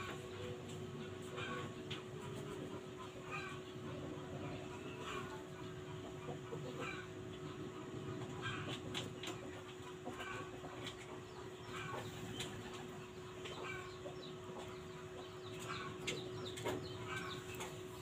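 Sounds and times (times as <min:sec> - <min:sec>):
chickens clucking: 0:00.0 - 0:18.0
steady low hum: 0:00.0 - 0:18.0.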